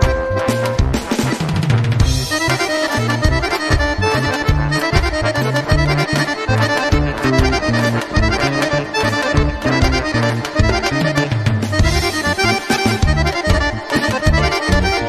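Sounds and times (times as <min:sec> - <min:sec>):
accordion-led dance tune by band: 0:00.0 - 0:15.0.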